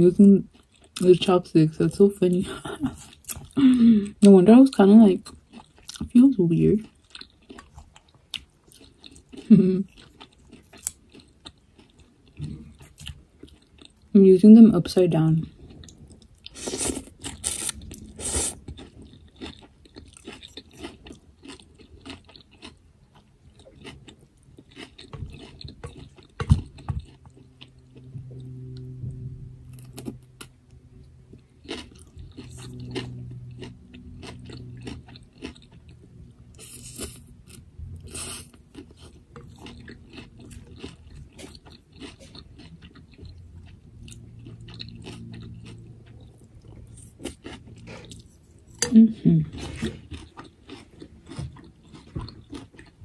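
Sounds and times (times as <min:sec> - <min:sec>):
food crunching: 0:04.2 - 0:14.1, 0:15.4 - 0:29.0, 0:29.6 - 0:53.0
wet chewing sounds: 0:05.2 - 0:14.1, 0:15.4 - 0:53.0.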